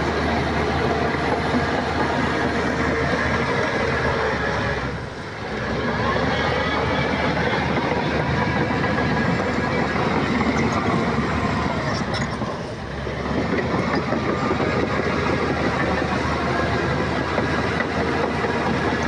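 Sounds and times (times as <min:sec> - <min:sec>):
diesel engine under load: 0:00.0 - 0:19.0
machinery clattering: 0:00.0 - 0:19.0.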